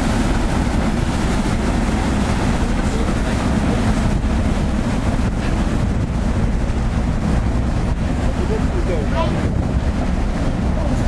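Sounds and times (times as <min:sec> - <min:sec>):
ferry engines droning: 0:00.0 - 0:11.0
water churned by propellers: 0:00.0 - 0:11.0.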